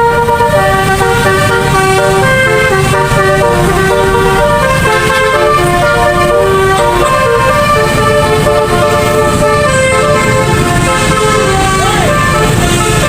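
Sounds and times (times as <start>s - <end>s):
bus engine rumble: 0.0s - 13.0s
musical air horn tune: 0.0s - 13.0s.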